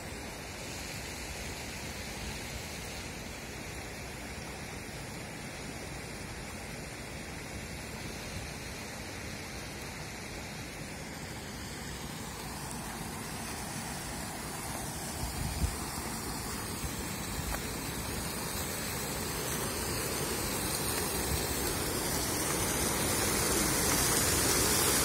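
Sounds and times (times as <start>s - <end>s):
river flowing over stones: 0.0s - 25.0s
small waterfall: 0.0s - 25.0s.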